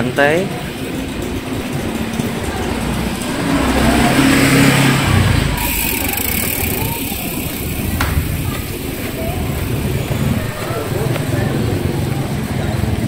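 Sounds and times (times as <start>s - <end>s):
motor scooter passing by: 0.2s - 13.0s.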